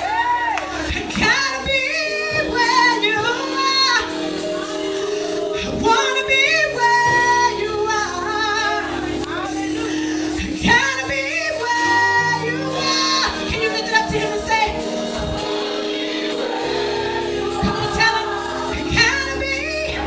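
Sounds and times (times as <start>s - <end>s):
sustained musical accompaniment: 0.0s - 20.0s
woman singing with vibrato: 0.0s - 20.0s.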